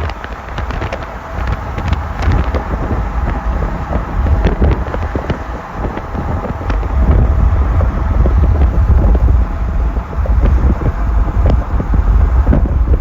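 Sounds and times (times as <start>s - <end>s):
moving train rumble: 0.0s - 13.0s
wind buffeting microphone: 0.0s - 13.0s.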